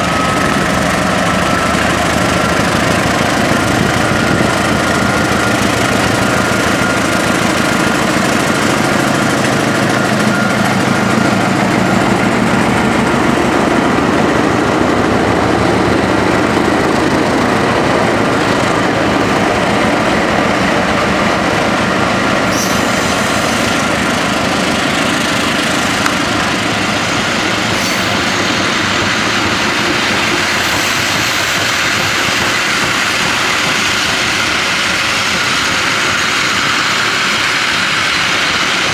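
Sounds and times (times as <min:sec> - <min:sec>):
diesel locomotive engines running: 0:00.0 - 0:38.9
train wheels rolling on rails: 0:00.0 - 0:38.9.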